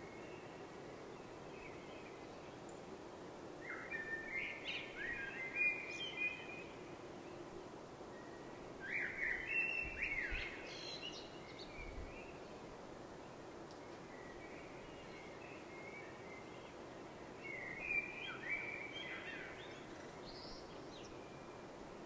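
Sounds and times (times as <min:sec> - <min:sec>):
songbird singing: 0:00.0 - 0:03.0, 0:03.6 - 0:22.0
faint background hiss: 0:00.0 - 0:22.0.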